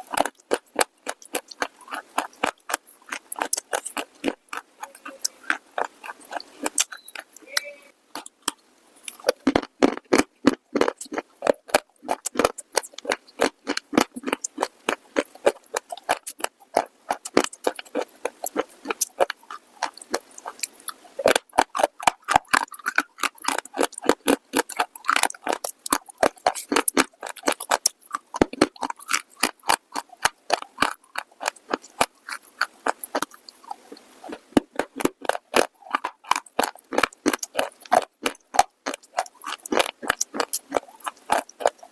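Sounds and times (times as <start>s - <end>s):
crunchy chewing: 0.0s - 7.4s, 8.1s - 41.9s.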